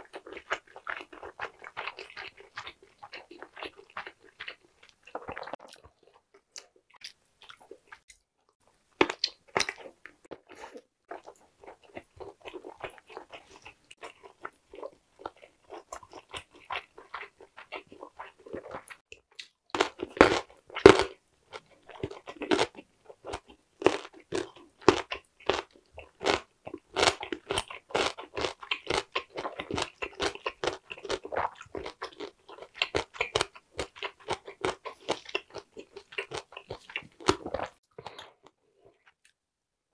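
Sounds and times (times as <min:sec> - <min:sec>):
crunchy chewing: 0:00.0 - 0:08.2, 0:09.0 - 0:39.4.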